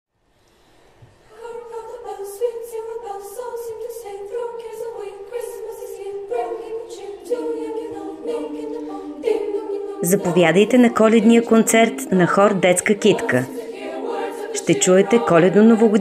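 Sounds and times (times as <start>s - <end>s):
girls' choir singing: 1.2s - 16.0s.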